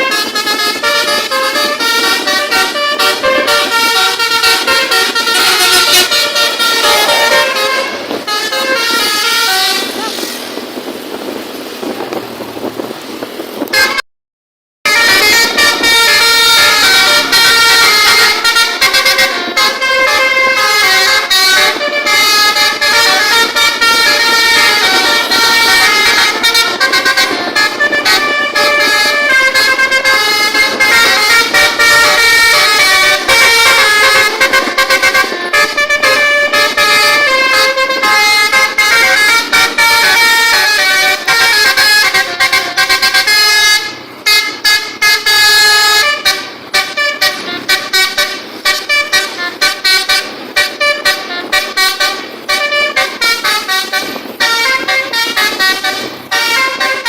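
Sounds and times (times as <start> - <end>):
multi-tone air horn melody: 0.0 - 10.5, 13.6 - 14.0, 14.9 - 57.0.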